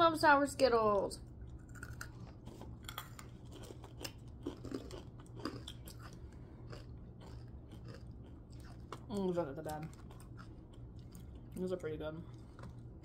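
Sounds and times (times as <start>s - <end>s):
low steady hum: 0.0s - 13.0s
crunching and chewing candy: 1.3s - 13.0s.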